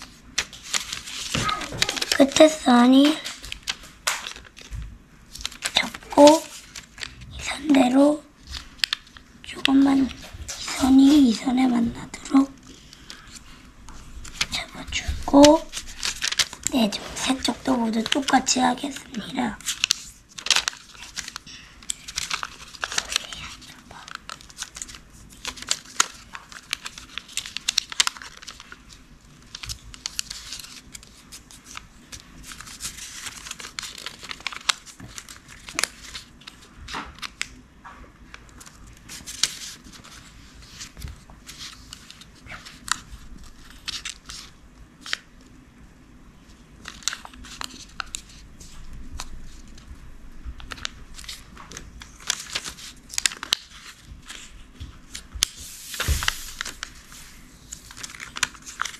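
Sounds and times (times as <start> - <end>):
paper crackling when pressed: 0.0 - 37.6, 38.2 - 45.6, 46.4 - 58.9
paper crinkling and rustling: 0.0 - 45.6, 46.4 - 58.9.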